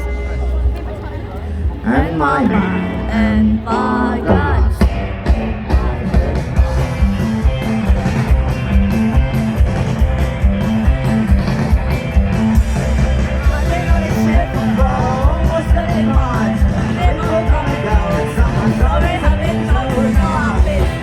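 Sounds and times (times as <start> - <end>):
live rock band: 0.0 - 21.0.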